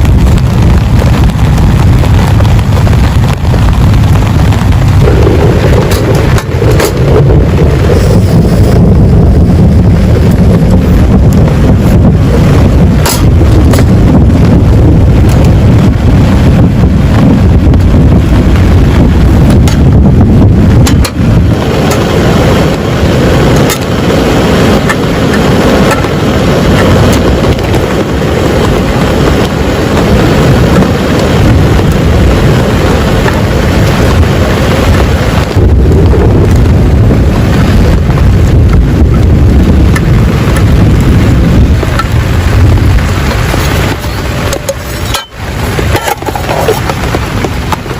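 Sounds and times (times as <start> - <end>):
heavy rain falling: 0.0 - 47.9
sharp raindrop hits: 0.0 - 47.9.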